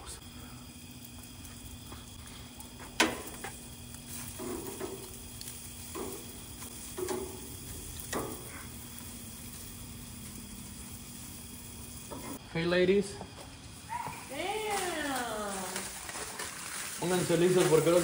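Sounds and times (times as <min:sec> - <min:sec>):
faint steady hum: 0:00.0 - 0:15.9
food sizzling: 0:00.0 - 0:18.0.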